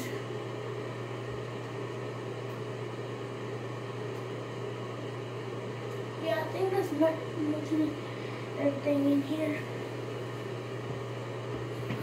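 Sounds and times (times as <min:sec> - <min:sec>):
ventilation fan hum and hiss: 0:00.0 - 0:12.0.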